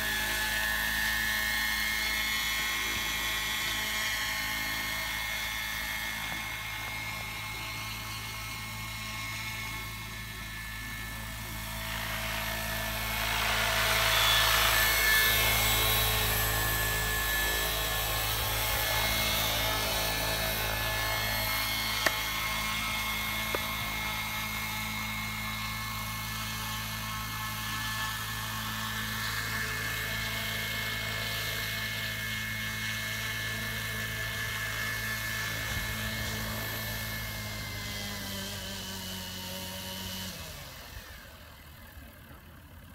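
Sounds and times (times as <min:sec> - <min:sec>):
helicopter rotor noise: 0:00.0 - 0:42.9
model helicopter whine: 0:00.0 - 0:42.9.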